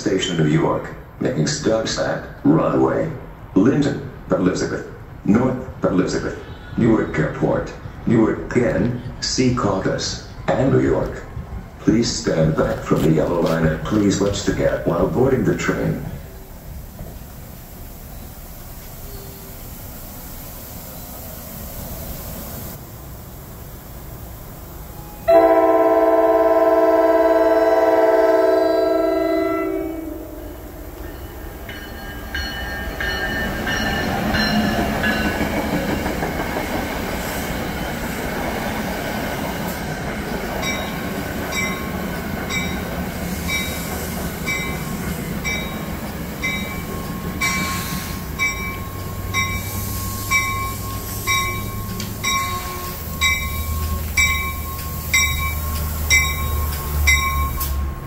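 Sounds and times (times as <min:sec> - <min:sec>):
train rumble with rhythmic clicking: 0:00.0 - 0:58.0
electric train whine: 0:00.2 - 0:58.0.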